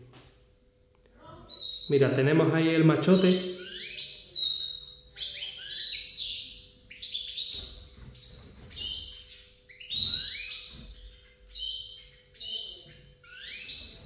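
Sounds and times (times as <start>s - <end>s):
faint steady hum: 0.0s - 14.0s
small birds singing and chirping: 1.2s - 14.0s.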